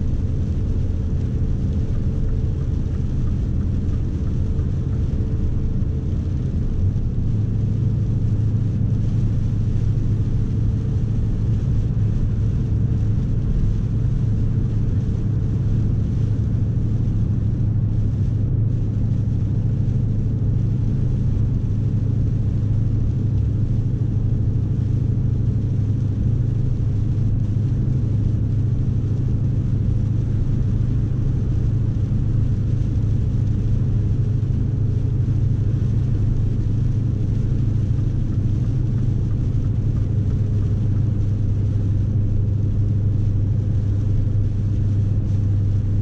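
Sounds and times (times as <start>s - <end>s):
diesel truck engine droning: 0.0s - 46.0s
road noise: 0.0s - 46.0s.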